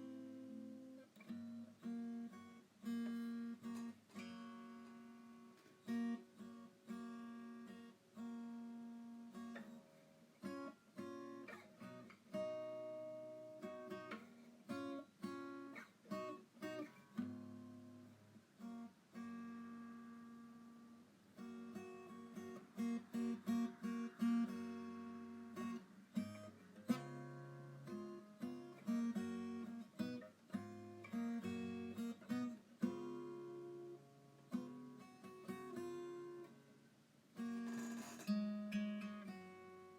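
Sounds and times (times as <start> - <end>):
solo acoustic guitar: 0.0 - 39.9.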